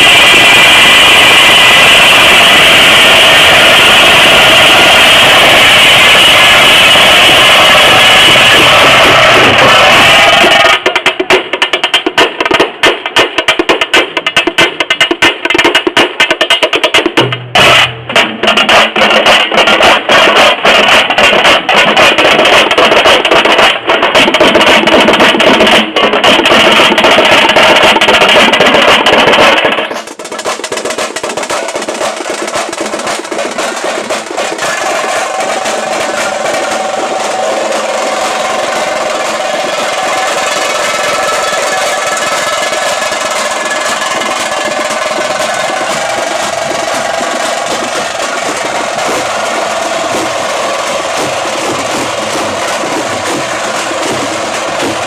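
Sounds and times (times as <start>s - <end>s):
frame drums beaten with sticks: 0.0s - 55.0s.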